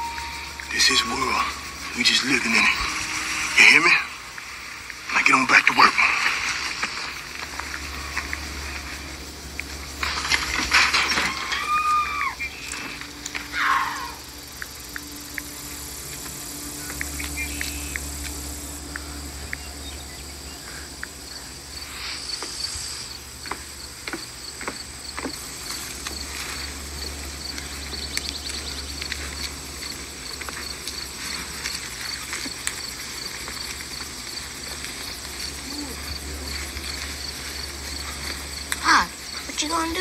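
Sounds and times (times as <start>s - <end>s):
low steady hum: 0.0s - 23.8s, 24.9s - 40.0s
insects chirping: 0.0s - 40.0s.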